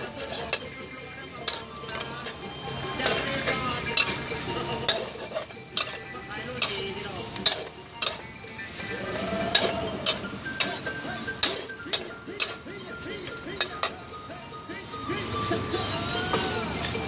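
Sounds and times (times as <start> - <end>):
metal spatula scraping a wok: 0.0 - 17.0
vegetables sizzling: 0.0 - 17.0.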